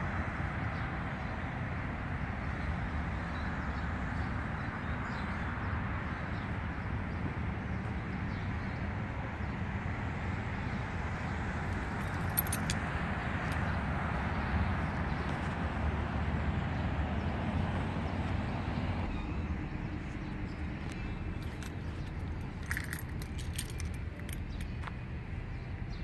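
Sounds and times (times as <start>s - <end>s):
trucks driving past: 0.0s - 26.0s.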